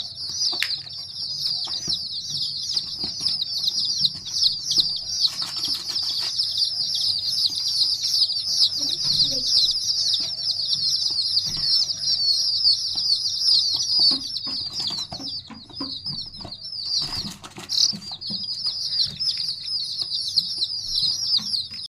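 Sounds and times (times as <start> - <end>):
chicks peeping: 0.0 - 21.9.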